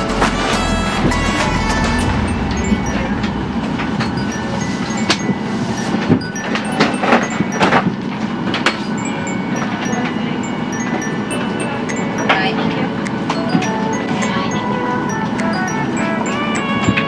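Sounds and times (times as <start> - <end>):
passengers moving about: 0.0 - 17.0.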